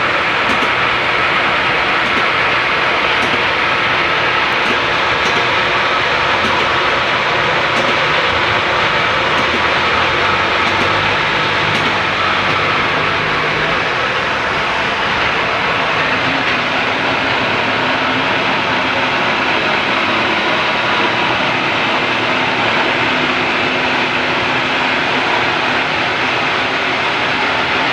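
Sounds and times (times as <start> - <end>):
well-drilling machine running: 0.0 - 27.9.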